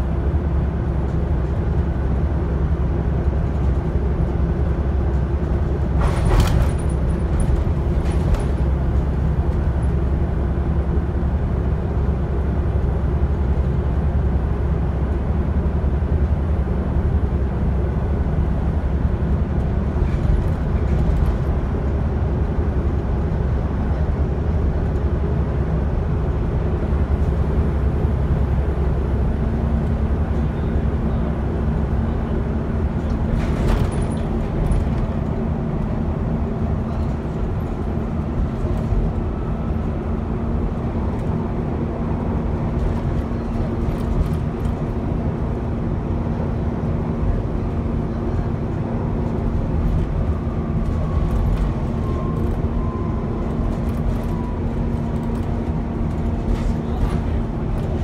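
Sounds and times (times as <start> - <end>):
bus diesel engine running: 0.0 - 58.0
road and tyre noise: 0.0 - 58.0.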